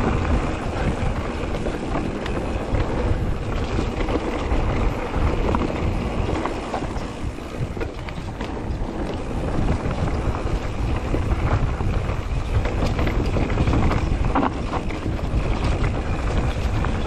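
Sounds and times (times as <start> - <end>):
bike clicks and rattles: 0.0 - 17.0
bike tyres rumbling on dirt: 0.0 - 17.0
wind buffeting microphone: 0.0 - 17.0.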